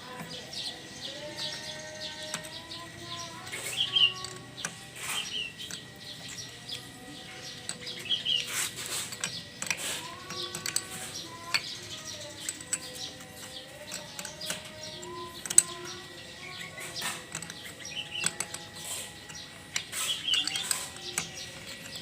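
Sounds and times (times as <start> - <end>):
sharp clicks and knocks: 0.0 - 22.0
small birds chirping: 0.0 - 22.0.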